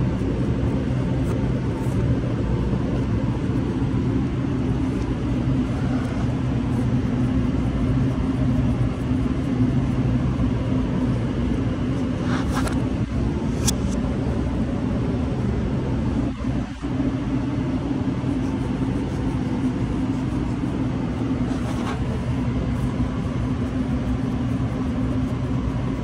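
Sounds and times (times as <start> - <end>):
kitchen equipment hum and rumble: 0.0 - 26.0.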